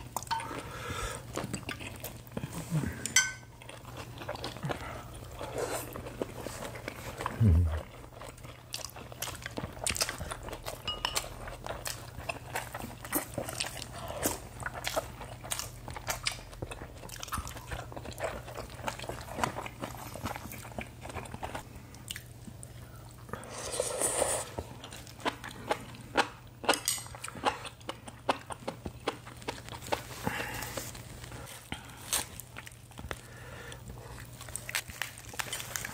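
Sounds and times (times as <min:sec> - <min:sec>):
chewing and crunching: 0:00.0 - 0:23.4, 0:24.5 - 0:35.9.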